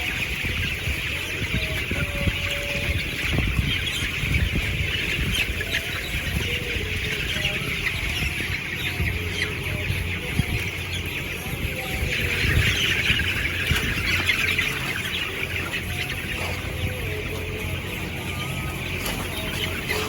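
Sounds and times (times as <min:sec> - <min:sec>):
chickens chirping and clucking: 0:00.0 - 0:20.0.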